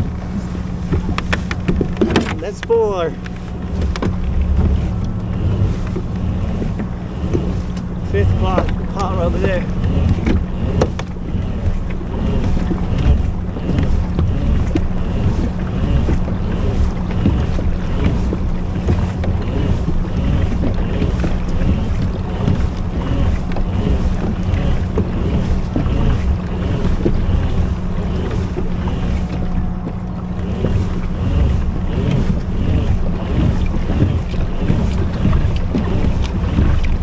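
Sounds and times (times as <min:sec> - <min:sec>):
steady low hum: 0:00.0 - 0:37.0
water sounds: 0:00.0 - 0:37.0
wind buffeting microphone: 0:00.0 - 0:37.0.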